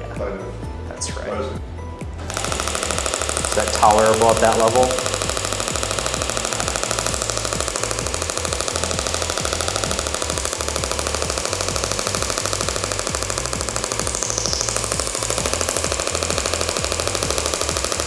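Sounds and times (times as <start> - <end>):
rapid clacking pulses: 2.3 - 18.0.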